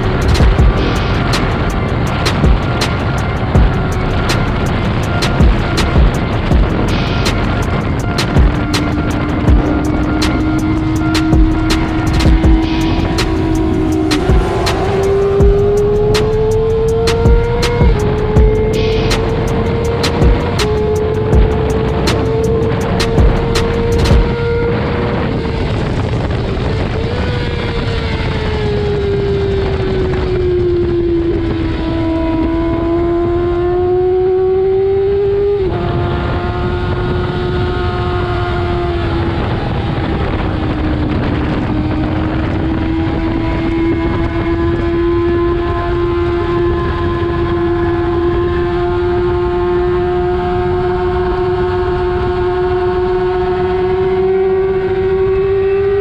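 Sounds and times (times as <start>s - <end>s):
motorcycle engine at high revs: 0.0s - 56.0s
wind rumble on microphone: 0.0s - 56.0s.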